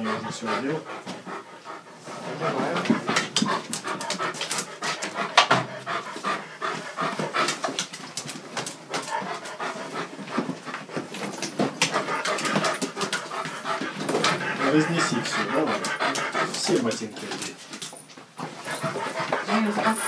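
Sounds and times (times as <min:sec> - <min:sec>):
dog panting heavily: 0:00.0 - 0:20.0
knocks and rustles among shoes: 0:02.1 - 0:20.0.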